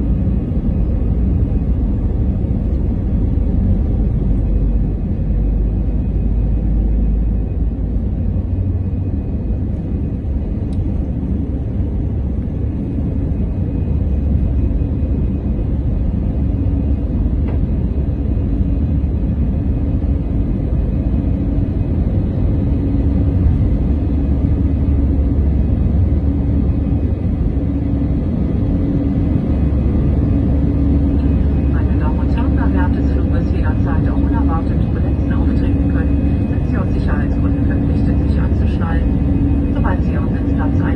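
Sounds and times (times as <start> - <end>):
jet engine noise in cabin: 0.0 - 40.9.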